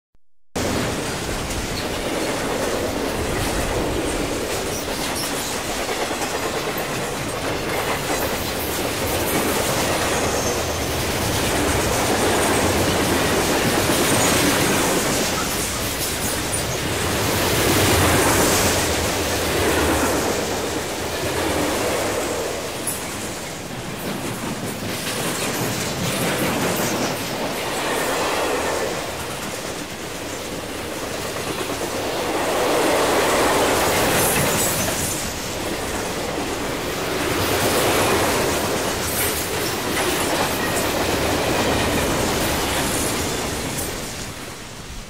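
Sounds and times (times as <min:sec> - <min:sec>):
train wheels clattering over rails: 0:00.6 - 0:44.8.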